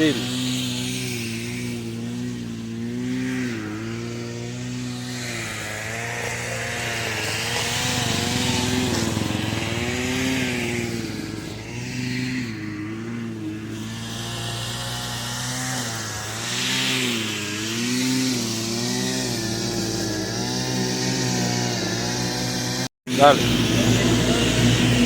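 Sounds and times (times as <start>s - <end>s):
chain cutting branches: 0.0s - 22.8s
pole pruner engine revving: 0.0s - 25.0s.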